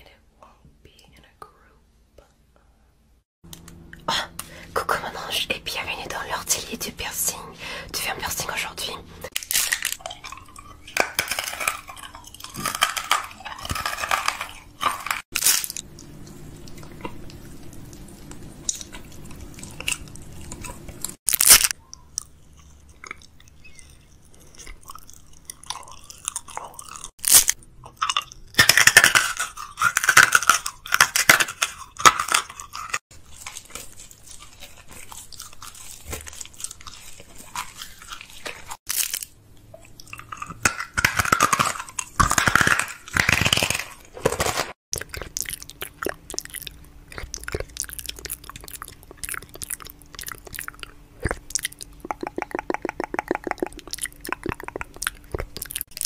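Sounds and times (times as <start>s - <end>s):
chewing and crunching candy: 3.7s - 56.0s.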